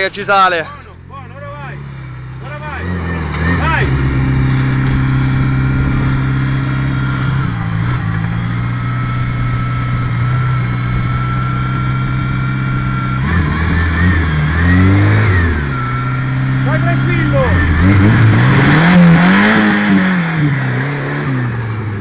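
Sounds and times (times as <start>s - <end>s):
off-road vehicle engine pulling: 0.0s - 22.0s
high whine: 3.2s - 22.0s.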